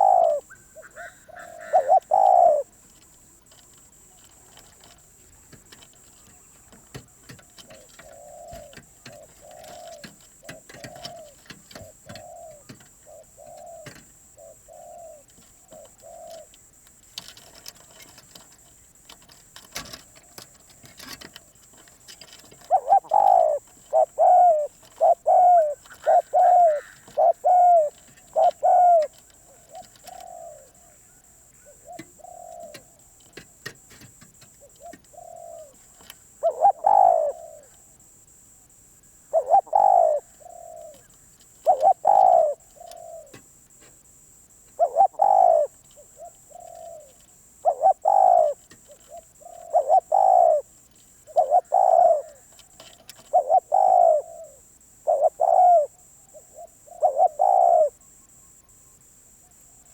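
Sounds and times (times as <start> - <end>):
dove cooing: 0.0 - 38.0, 39.1 - 59.9.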